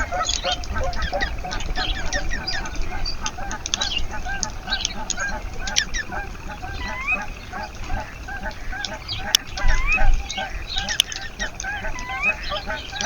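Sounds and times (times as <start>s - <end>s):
rising whistled bird notes: 0.0s - 13.0s
sharp bird chips: 0.0s - 13.0s
short repeated bird calls: 0.0s - 13.0s.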